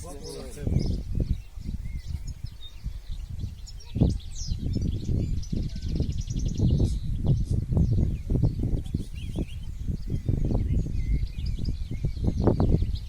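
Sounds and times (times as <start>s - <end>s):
bird twittering and trilling: 0.0s - 13.0s
wind buffeting microphone: 0.0s - 13.0s.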